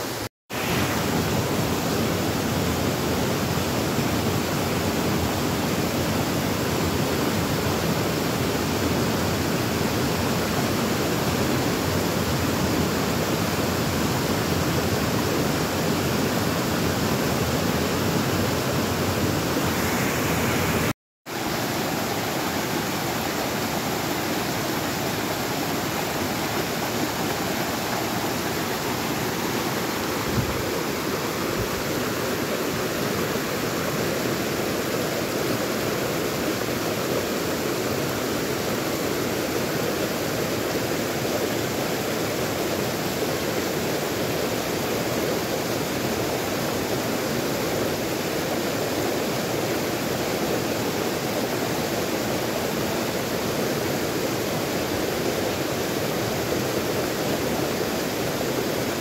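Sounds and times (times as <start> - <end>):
mountain stream rushing over rocks: 0.0 - 59.0.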